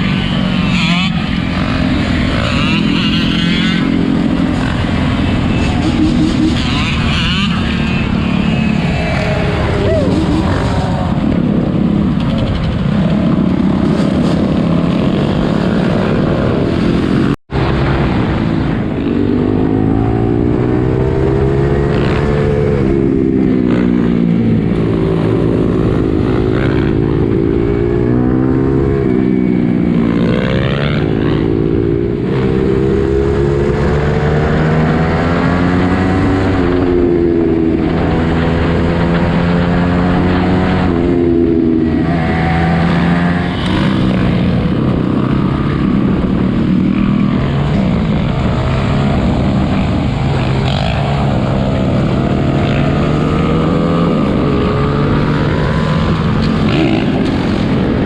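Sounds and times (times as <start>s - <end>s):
atv engines revving: 0.0s - 58.0s.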